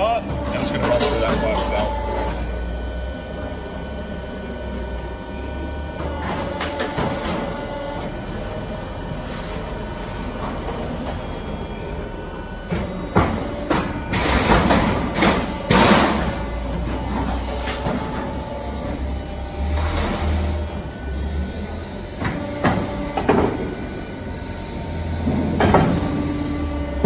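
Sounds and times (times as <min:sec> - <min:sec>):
folding beam working: 0:00.0 - 0:27.0
machine drive humming: 0:00.0 - 0:27.0.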